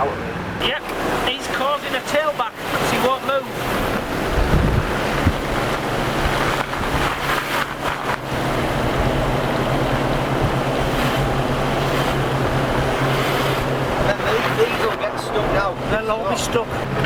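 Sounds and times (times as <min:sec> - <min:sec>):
rushing wind: 0:00.0 - 0:17.0
vehicle engine humming: 0:00.0 - 0:17.0.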